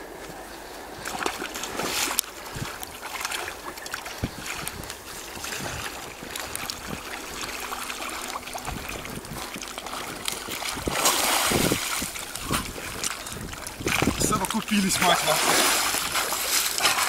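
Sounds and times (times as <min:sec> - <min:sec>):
water splashing from swimmer: 0:01.0 - 0:17.0.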